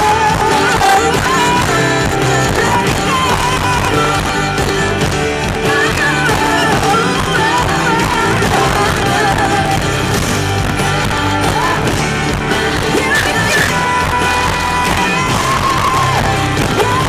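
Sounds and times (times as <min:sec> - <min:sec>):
drums: 0:00.0 - 0:17.0
electric guitar: 0:00.0 - 0:17.0
pop-rock band playing: 0:00.0 - 0:17.0.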